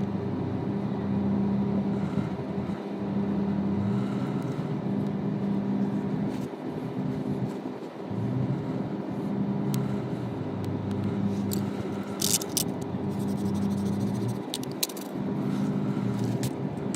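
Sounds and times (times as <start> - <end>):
motor humming: 0.0 - 16.9.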